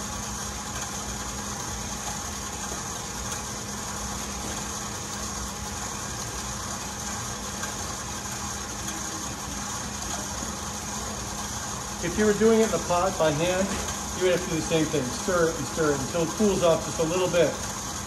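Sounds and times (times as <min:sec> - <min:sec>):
stand mixer humming: 0:00.0 - 0:18.0.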